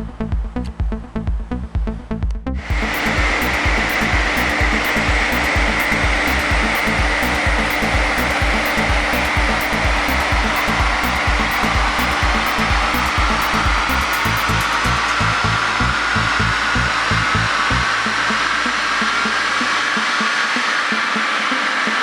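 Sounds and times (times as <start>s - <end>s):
electronic dance music: 0.0s - 22.0s
whine rising in pitch: 2.5s - 22.0s
engine and roller noise: 2.6s - 22.0s.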